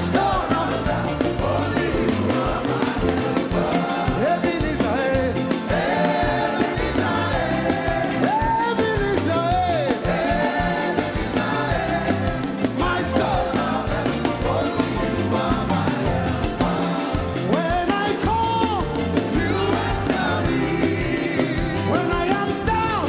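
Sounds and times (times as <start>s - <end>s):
band playing dance beat: 0.0s - 23.0s
people singing: 0.0s - 23.0s.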